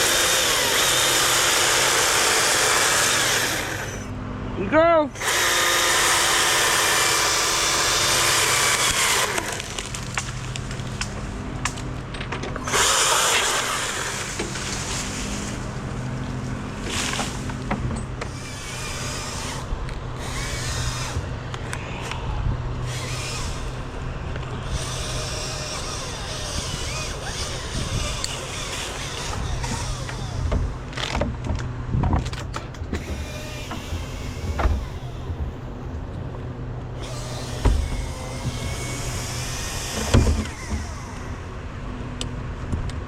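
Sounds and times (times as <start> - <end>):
chainsaw cutting: 0.0 - 4.2, 5.0 - 12.0, 12.6 - 31.4, 32.9 - 35.9, 36.8 - 42.0
low engine hum: 0.0 - 43.0.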